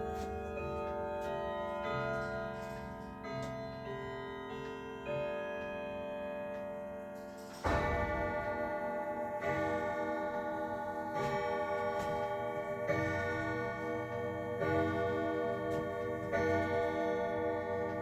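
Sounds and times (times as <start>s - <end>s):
clock striking: 0.0s - 18.0s.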